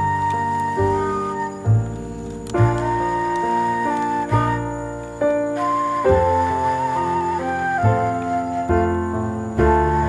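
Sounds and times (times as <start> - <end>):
flute-like melody: 0.0 - 10.0.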